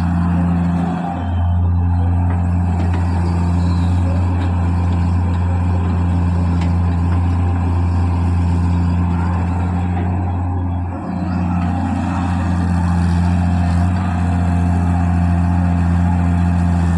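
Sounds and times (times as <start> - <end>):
diesel engine droning: 0.0 - 16.9.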